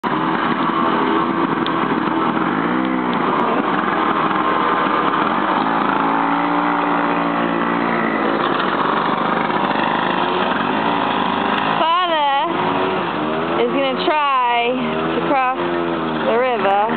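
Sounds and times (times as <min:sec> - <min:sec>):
snowmobile engine revving: 0:00.0 - 0:16.9.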